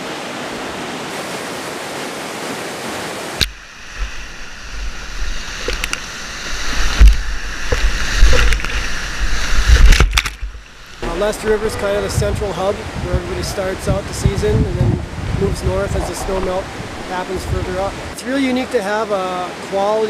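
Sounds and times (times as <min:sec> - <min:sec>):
rushing whitewater: 0:00.0 - 0:20.0
water buffeting kayak: 0:00.0 - 0:20.0.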